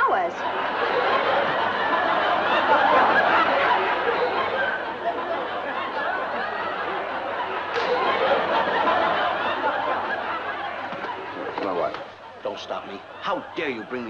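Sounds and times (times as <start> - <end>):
audience laughing: 0.0 - 14.0.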